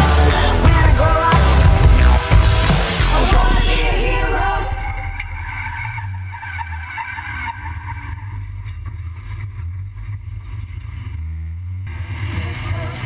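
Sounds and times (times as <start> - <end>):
race car engine droning: 0.0 - 13.0.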